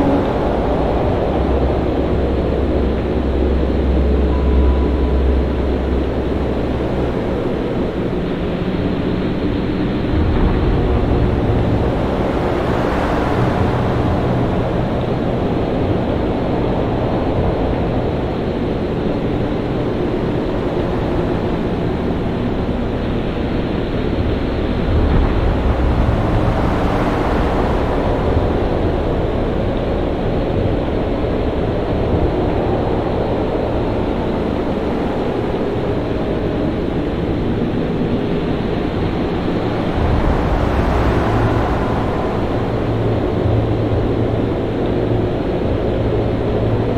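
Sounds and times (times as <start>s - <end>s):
deep rumble: 0.0s - 46.9s
heavy surf: 0.0s - 46.9s
wind rushing: 0.0s - 46.9s.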